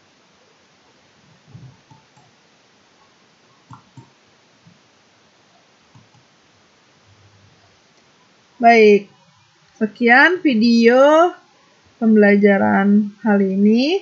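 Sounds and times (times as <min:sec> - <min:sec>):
room hiss: 0:00.0 - 0:14.0.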